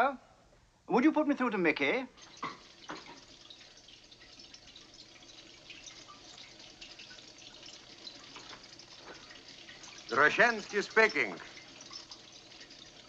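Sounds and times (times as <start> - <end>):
water dripping and trickling: 1.8 - 13.0.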